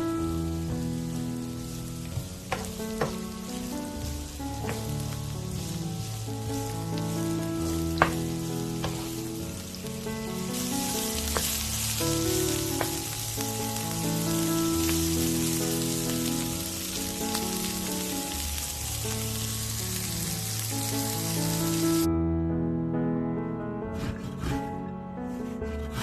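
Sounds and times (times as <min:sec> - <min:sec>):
food sizzling in hot oil: 0:00.0 - 0:22.1
background music with held notes: 0:00.0 - 0:26.0.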